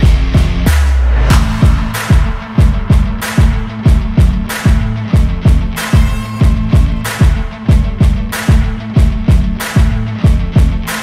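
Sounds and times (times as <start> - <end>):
funk or electronic music with drums: 0.0 - 11.0.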